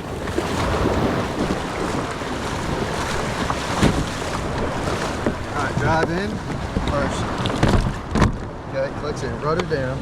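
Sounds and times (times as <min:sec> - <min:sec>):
surf washing on shore: 0:00.0 - 0:10.0
wind buffeting microphone: 0:00.0 - 0:10.0.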